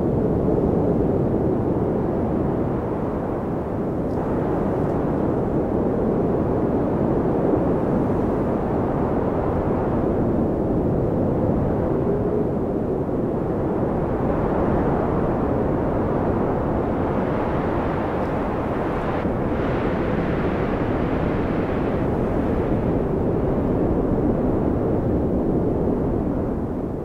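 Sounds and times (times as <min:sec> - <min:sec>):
snowstorm rushing wind: 0:00.0 - 0:27.0.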